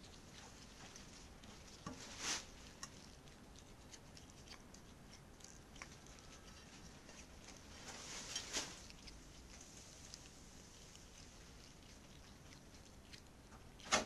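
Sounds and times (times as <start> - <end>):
cat crunching bone: 0.0 - 14.0.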